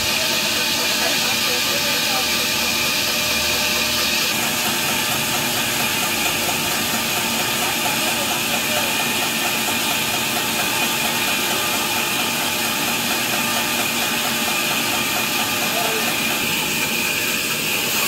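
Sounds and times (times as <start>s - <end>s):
saw machine hum: 0.0s - 18.0s.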